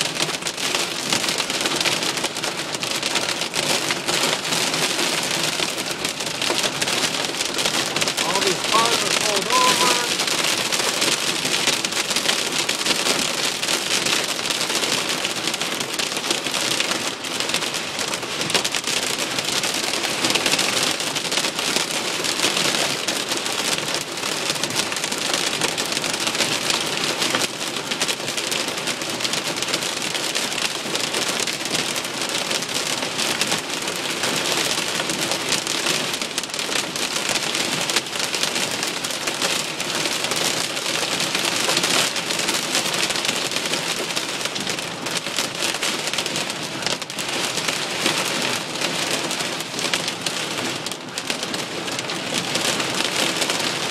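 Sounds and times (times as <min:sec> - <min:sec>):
heavy rain on car roof: 0:00.0 - 0:53.9.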